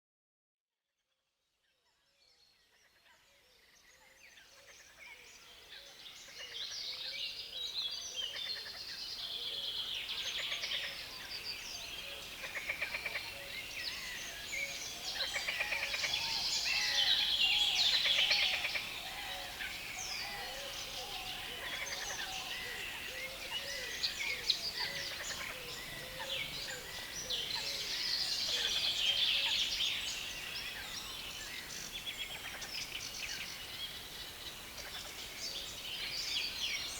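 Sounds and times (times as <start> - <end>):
chorus of birds singing: 2.3 - 36.9.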